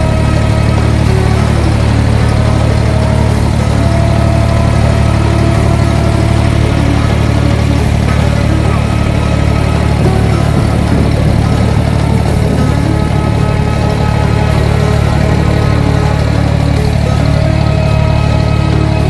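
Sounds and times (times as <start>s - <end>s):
boat diesel engine humming: 0.0s - 19.0s.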